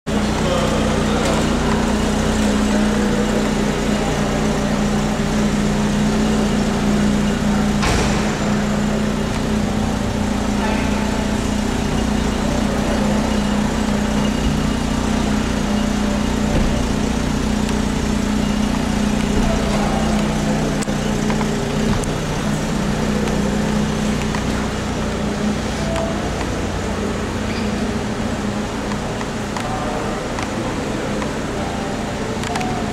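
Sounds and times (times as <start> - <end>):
car engine idling: 0.1 - 32.9.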